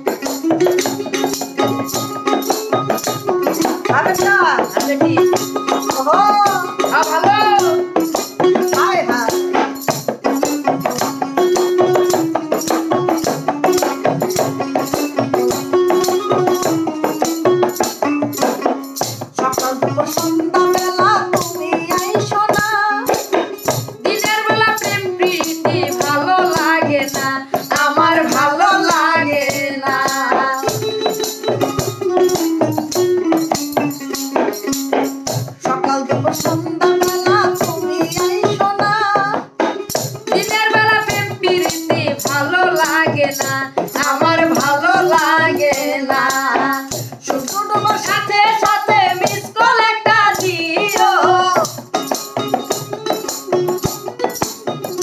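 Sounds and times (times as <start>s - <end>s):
woman singing: 0.0s - 9.9s, 10.6s - 33.6s, 35.4s - 55.0s
fast percussion beat: 0.0s - 55.0s.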